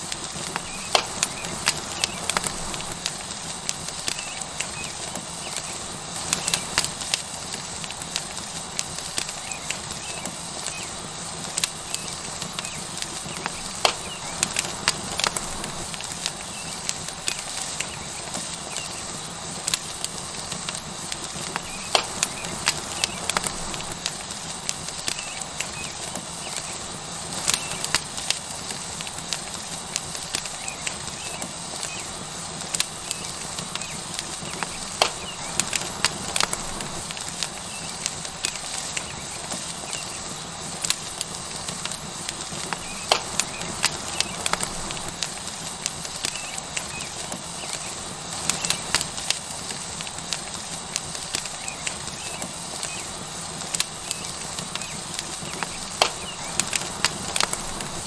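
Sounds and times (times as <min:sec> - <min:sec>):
fire crackling in sharp pops: 0:00.0 - 0:58.0
steak sizzling on hot rock: 0:00.0 - 0:58.0.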